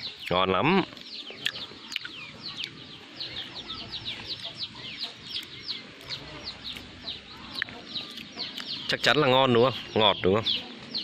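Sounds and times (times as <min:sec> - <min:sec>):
chickens peeping: 0:00.0 - 0:11.0.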